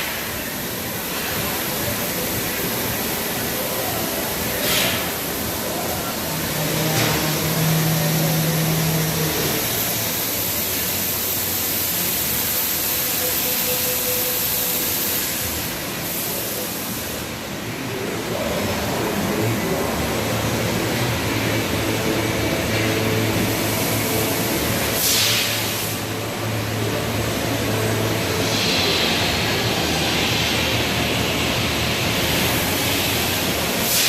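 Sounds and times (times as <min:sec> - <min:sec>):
laser cutter hiss and hum: 0:00.0 - 0:34.0.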